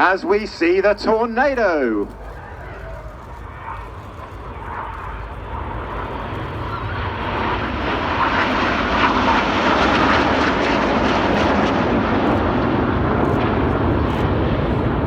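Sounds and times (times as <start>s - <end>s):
military jets flying past: 0.0s - 15.0s.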